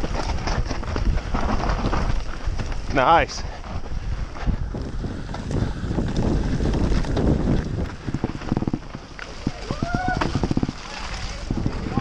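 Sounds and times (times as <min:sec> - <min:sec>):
bike clattering and knocking: 0:00.0 - 0:12.0
tyres rumbling over dirt: 0:00.0 - 0:12.0
wind buffeting microphone: 0:00.0 - 0:12.0.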